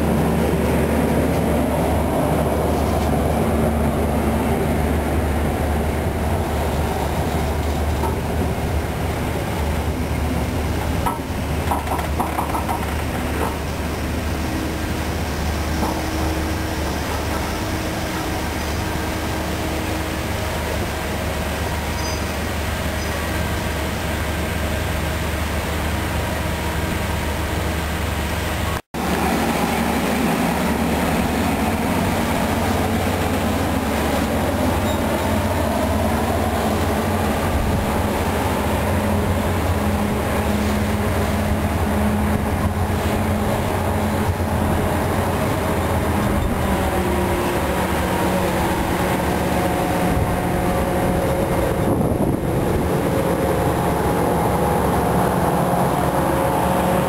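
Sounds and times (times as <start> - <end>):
carriages rolling on rails: 0.0 - 57.0
diesel locomotive engine droning: 0.0 - 57.0.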